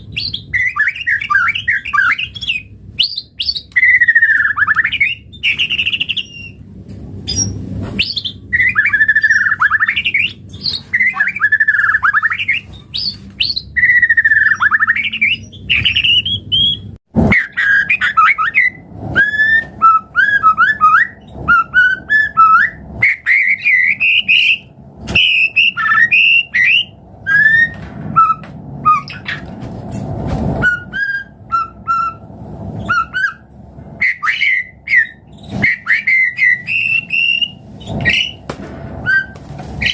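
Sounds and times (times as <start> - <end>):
bird singing whistled song: 0.0 - 6.6, 7.3 - 29.5, 30.6 - 32.2, 32.8 - 33.4, 34.0 - 38.4, 39.0 - 39.9.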